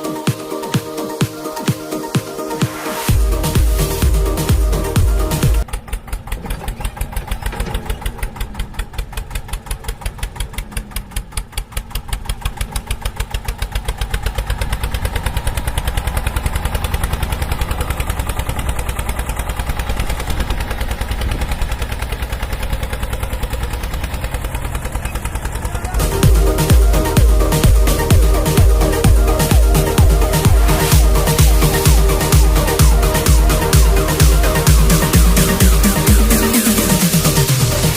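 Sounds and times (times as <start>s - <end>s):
tractor engine putter: 2.9s - 37.9s.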